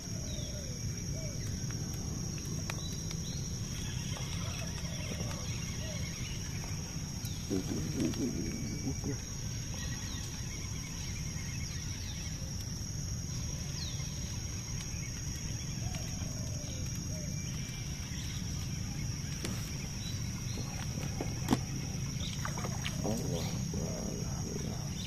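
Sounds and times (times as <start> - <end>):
insect drone: 0.0 - 25.0
low background rumble: 0.7 - 25.0
bird calls: 2.5 - 12.5, 13.3 - 25.0.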